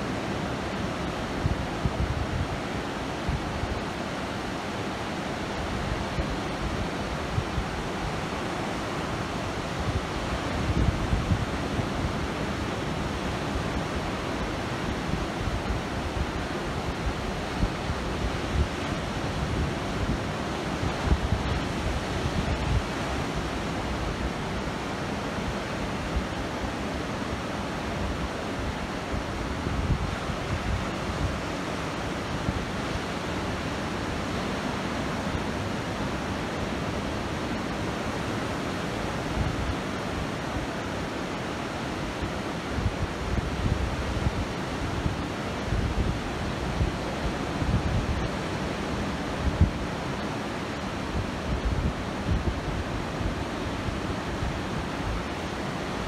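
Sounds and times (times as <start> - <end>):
ocean surf breaking on beach: 0.0 - 56.0
wind on microphone: 0.0 - 56.0.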